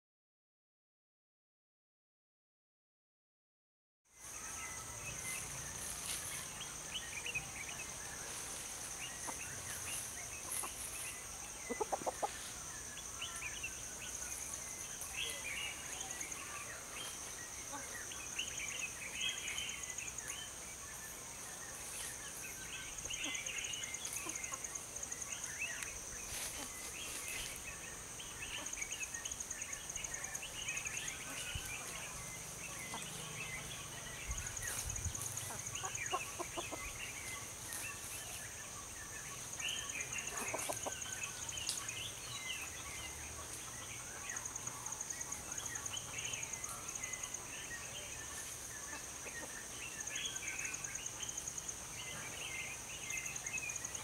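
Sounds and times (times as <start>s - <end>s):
bird chirps: 4.2s - 54.0s.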